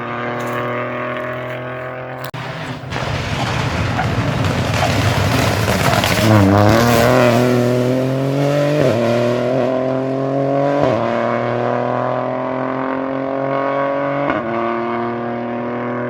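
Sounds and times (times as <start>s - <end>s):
engine upshifts: 0.0s - 4.1s, 6.0s - 16.0s
rally car accelerating hard: 0.0s - 16.0s.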